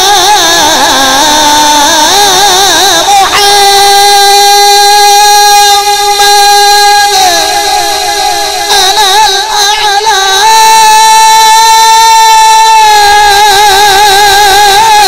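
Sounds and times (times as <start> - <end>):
man singing through loudspeakers: 0.0 - 15.0.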